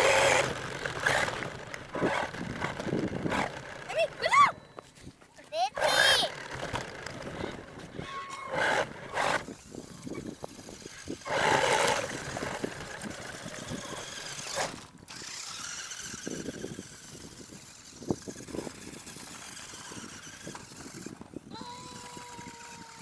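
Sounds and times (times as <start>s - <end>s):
toy truck driving over rough ground: 0.0s - 23.0s.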